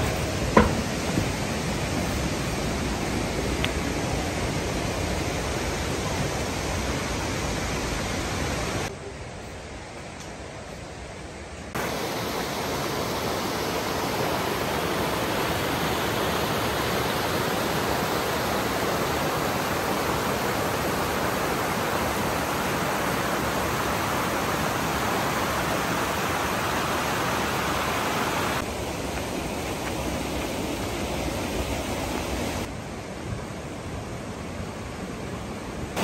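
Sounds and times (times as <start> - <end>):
stream rushing over rocks: 0.0 - 8.9, 11.7 - 36.0.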